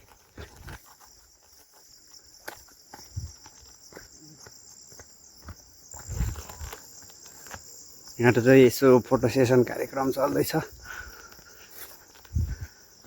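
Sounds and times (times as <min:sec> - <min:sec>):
footsteps on dirt path: 0:00.0 - 0:13.0
high insect chorus: 0:00.0 - 0:13.0.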